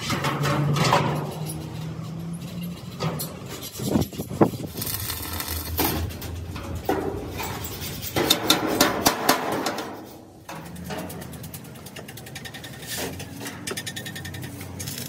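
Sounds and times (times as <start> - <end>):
knocks and clatter: 0.0 - 15.0.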